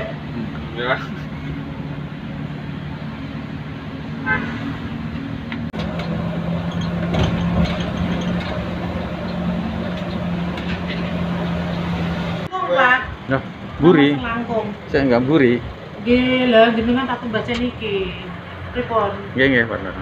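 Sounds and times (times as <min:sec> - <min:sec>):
bus engine idling: 0:00.0 - 0:20.0
road and terminal noise: 0:00.0 - 0:20.0.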